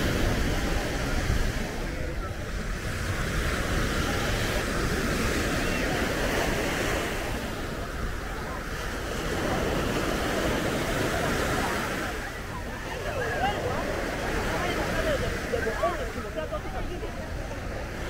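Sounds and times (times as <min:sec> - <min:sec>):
waves washing up a sandy shore: 0:00.0 - 0:18.0.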